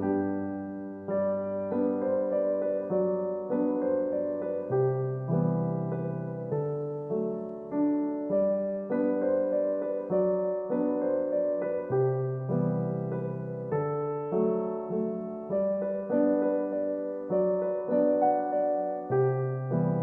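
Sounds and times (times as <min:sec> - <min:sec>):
gentle slow piano melody: 0:00.0 - 0:20.0.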